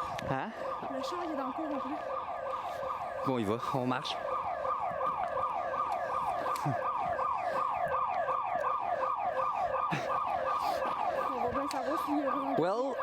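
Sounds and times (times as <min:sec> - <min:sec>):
security alarm siren: 0:00.0 - 0:13.0.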